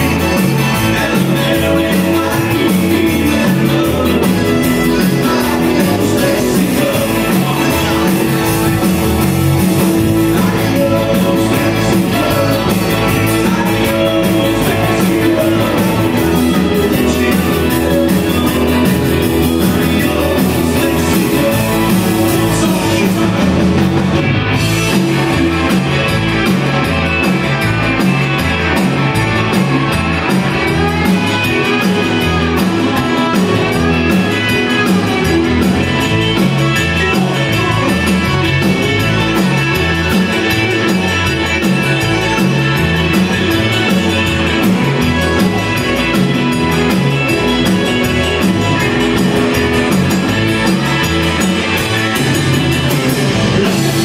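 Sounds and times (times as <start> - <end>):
button accordion: 0.0 - 54.0
drum kit steady beat: 0.0 - 54.0
electric guitars: 0.0 - 54.0
keyboard: 0.0 - 54.0.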